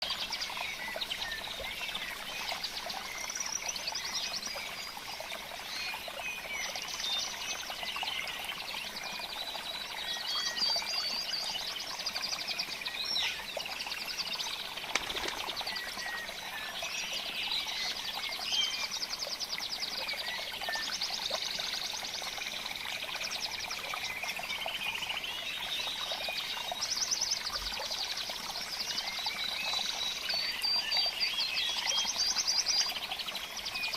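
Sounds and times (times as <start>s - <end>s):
small birds chirping and trilling: 0.0s - 33.9s.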